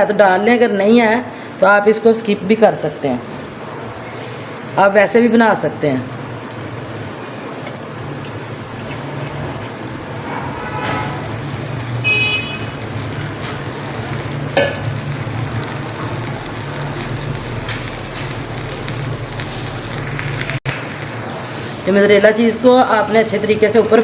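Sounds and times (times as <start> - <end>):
bread sizzling in a pan: 0.2 - 24.0.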